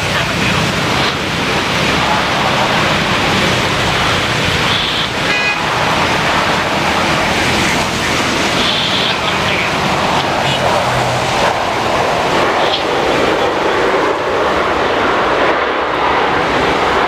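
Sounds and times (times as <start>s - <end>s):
heavy rain rushing: 0.0s - 17.0s
vehicle engine noise: 0.0s - 17.0s.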